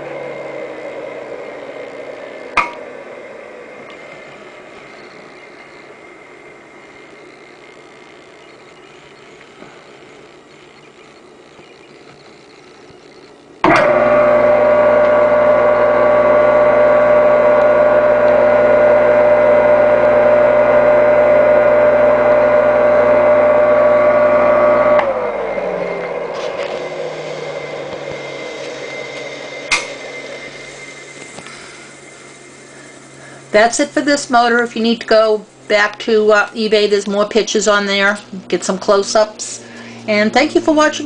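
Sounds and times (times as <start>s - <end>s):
electric motor humming and whining: 0.0s - 41.0s.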